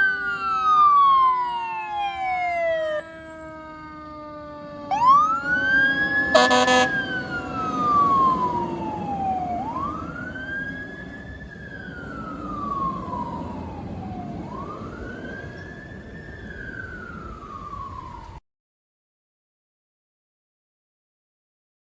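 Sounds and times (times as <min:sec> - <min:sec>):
fire engine siren wailing: 0:00.0 - 0:18.4.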